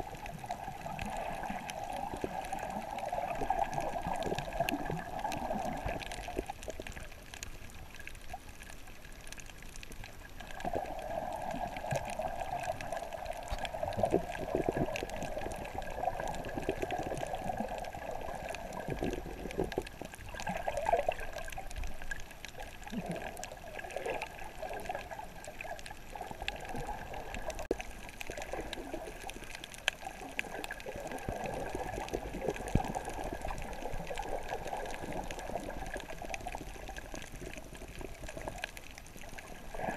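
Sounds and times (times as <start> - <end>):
faint ticks: 0.0 - 10.9, 11.5 - 39.9
underwater sloshing and bubbling: 0.0 - 39.9.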